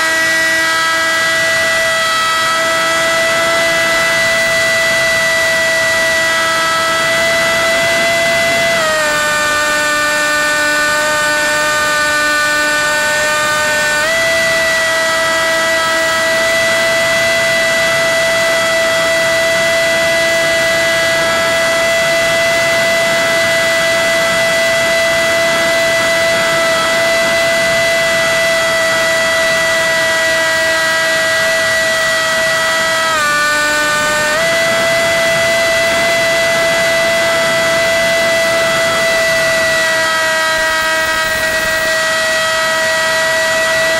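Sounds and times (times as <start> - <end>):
model plane motor whine: 0.0 - 43.9.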